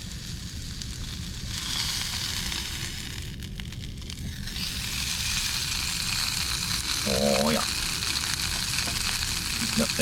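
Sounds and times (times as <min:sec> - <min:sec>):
hamburger patty sizzling: 0:00.0 - 0:10.0.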